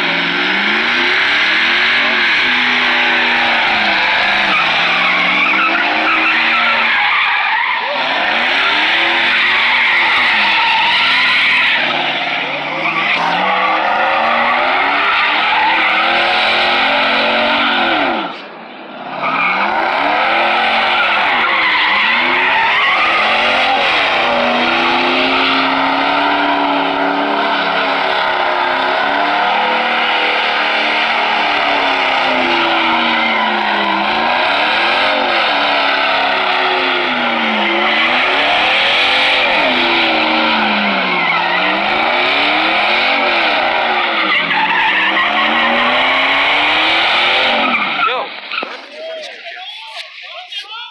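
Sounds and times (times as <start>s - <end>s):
truck engine revving: 0.0s - 50.2s
tyres squealing and skidding: 0.0s - 50.9s.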